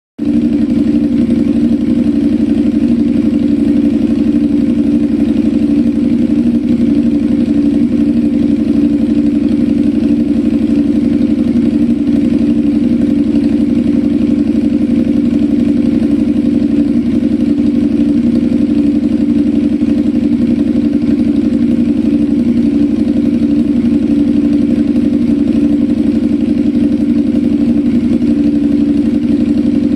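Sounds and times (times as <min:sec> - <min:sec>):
motorcycle engine idling: 0:00.2 - 0:29.9.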